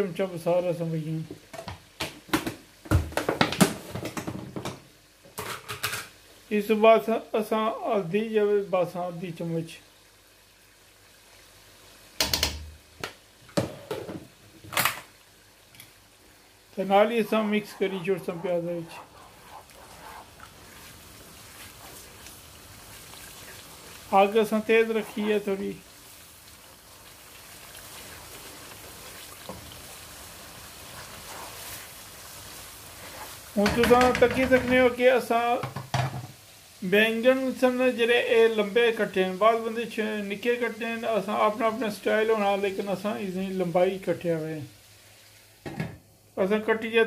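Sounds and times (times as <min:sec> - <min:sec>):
masala sizzling in a wok: 0:00.0 - 0:47.0.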